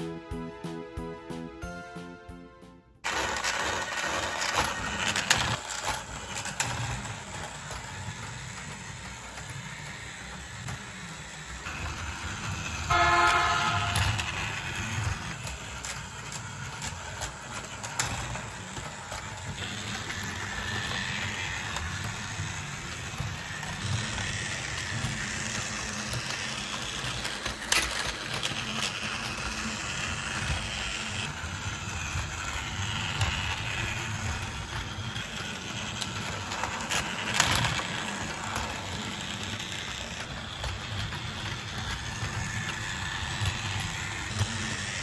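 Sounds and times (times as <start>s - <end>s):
toy motor running: 3.0s - 45.0s.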